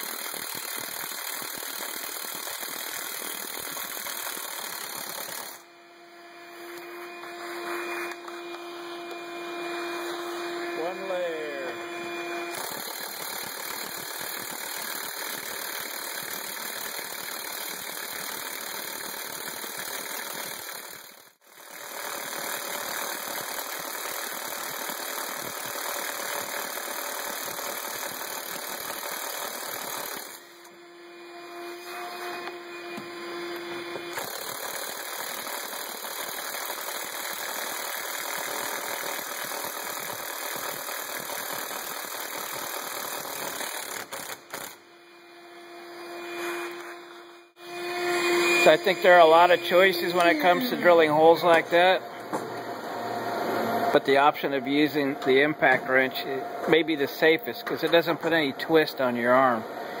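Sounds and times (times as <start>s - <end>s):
impact wrench drilling through steel: 0.0s - 60.0s.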